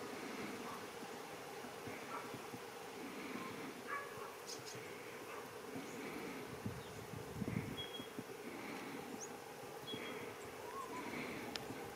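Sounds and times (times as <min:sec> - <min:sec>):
low buzzing hum: 0:00.0 - 0:11.9.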